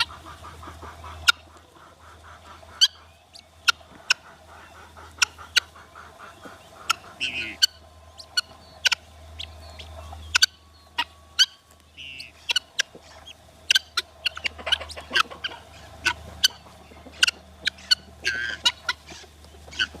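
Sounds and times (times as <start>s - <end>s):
poultry clucking: 0.0s - 20.0s
poultry long calls: 0.0s - 20.0s.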